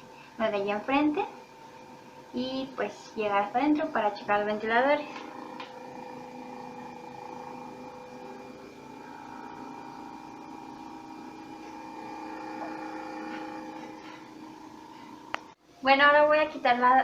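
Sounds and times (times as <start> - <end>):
refrigerator humming: 0.0 - 16.9.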